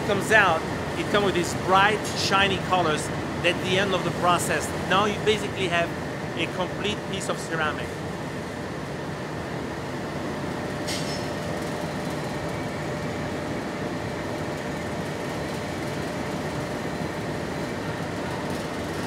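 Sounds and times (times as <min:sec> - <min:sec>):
kiln and ventilation fans running: 0:00.0 - 0:19.0.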